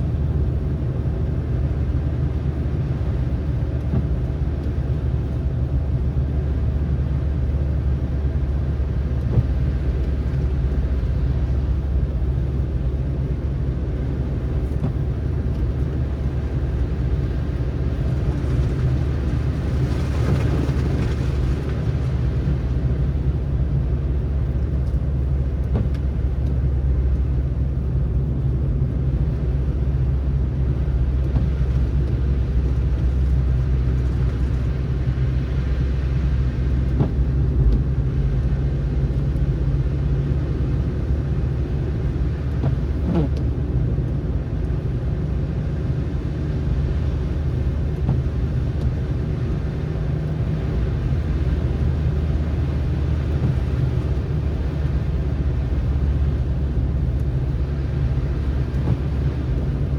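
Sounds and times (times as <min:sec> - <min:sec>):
car driving on snowy road: 0:00.0 - 0:59.9.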